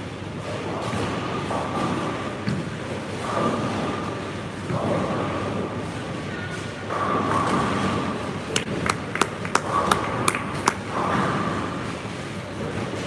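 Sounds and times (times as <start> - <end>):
rumble of bowling balls and machinery: 0.0 - 13.0.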